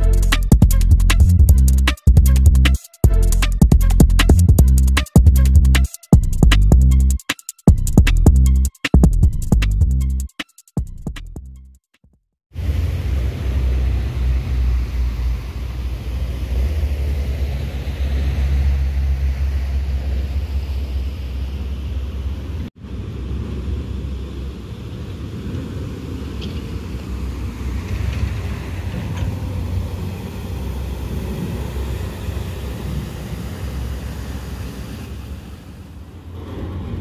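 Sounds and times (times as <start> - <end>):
diesel truck engine rumble: 0.0 - 7.2, 12.6 - 37.0
road noise: 0.0 - 10.2, 12.5 - 37.0.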